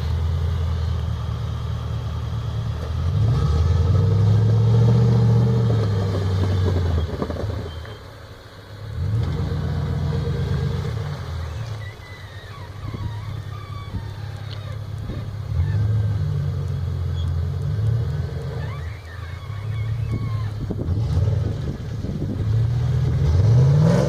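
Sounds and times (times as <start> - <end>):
car engine revving: 0.0 - 8.2, 8.8 - 24.0.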